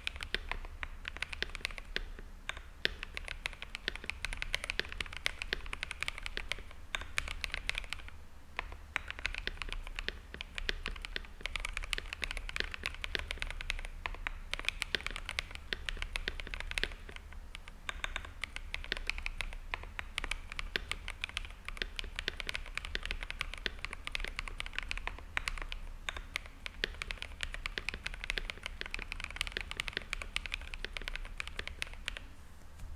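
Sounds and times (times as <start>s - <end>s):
mechanical keyboard typing: 0.0s - 32.3s.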